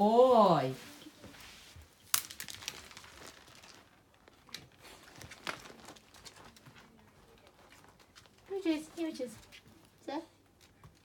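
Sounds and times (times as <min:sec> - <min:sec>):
crinkly rustling: 0:00.8 - 0:11.0.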